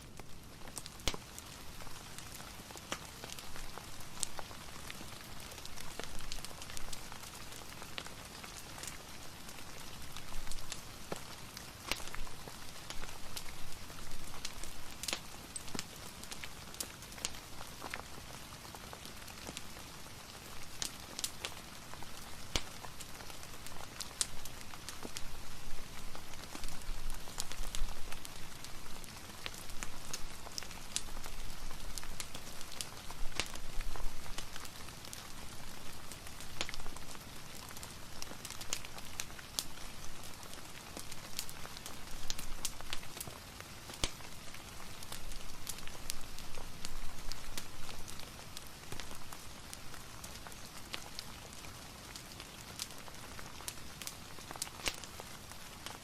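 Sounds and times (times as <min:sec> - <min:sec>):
soft rain hiss: 0:00.0 - 0:56.0
wood fire crackling and popping: 0:00.1 - 0:56.0.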